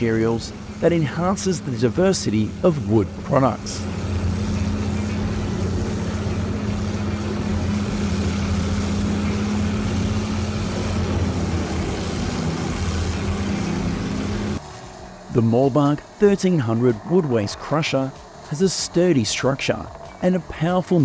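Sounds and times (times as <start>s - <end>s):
wood grinder running: 0.0s - 21.0s.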